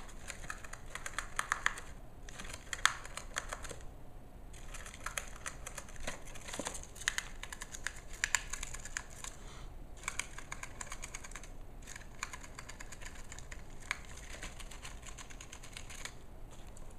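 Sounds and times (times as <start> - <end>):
gerbil gnawing cardboard tube: 0.0 - 3.9, 4.5 - 9.4, 10.0 - 16.9.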